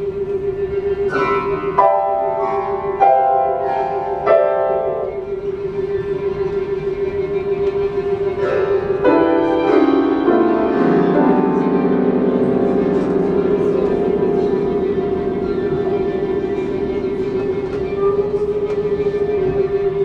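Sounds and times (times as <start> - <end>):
chamber quartet playing: 0.4 - 20.0.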